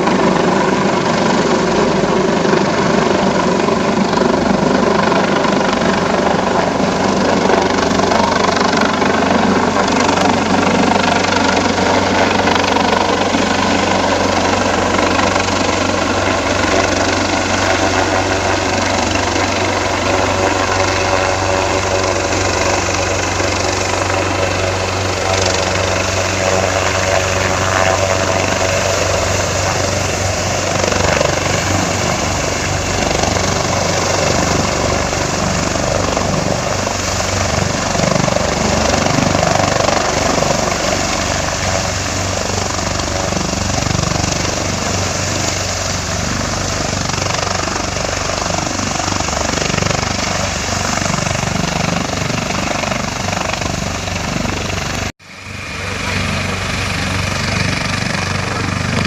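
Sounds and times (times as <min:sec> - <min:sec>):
helicopter rotor beating: 0:00.0 - 0:59.0.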